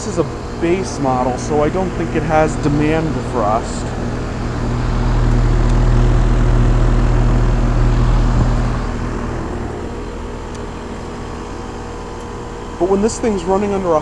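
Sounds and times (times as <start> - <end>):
condenser fan running: 0.0 - 14.0
heat pump compressor hum: 0.0 - 14.0
heavy low rumble: 0.2 - 11.8.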